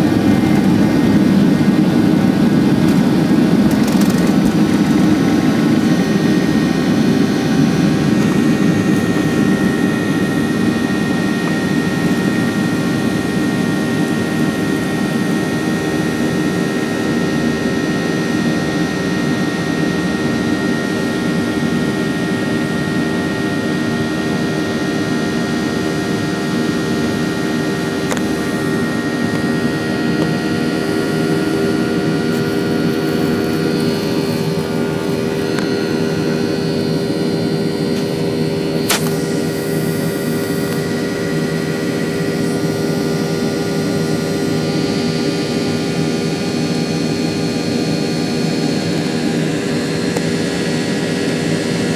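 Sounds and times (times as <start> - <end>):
jet engines heard from cabin: 0.0 - 51.9.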